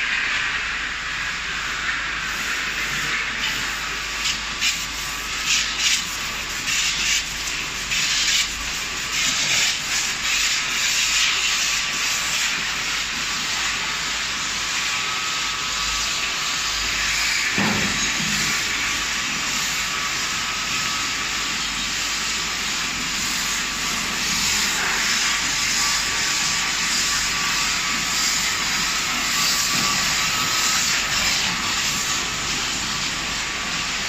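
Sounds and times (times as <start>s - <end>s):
car wash spraying water: 0.0s - 34.0s.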